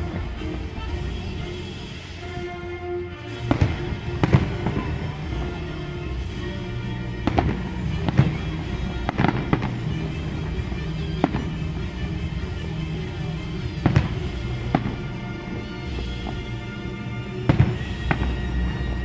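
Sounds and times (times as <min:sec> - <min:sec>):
fireworks bursting: 0:00.0 - 0:19.0
music playing: 0:00.0 - 0:19.0.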